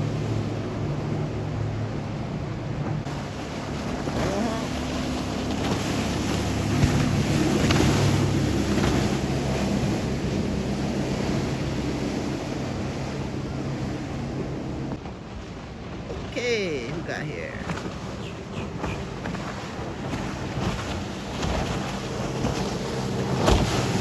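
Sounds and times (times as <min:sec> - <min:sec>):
motorboat engine drone: 0:00.0 - 0:24.0
wind on microphone: 0:00.0 - 0:24.0.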